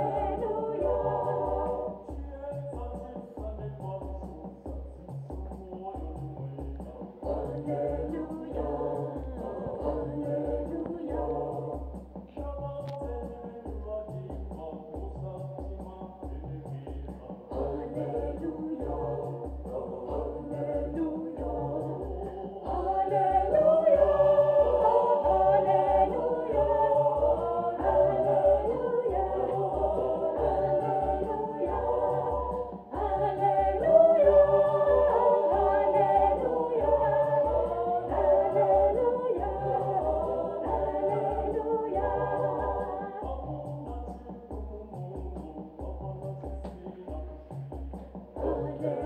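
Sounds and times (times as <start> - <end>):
gospel choir singing: 0.0 - 49.0
steady low beat: 0.0 - 49.0.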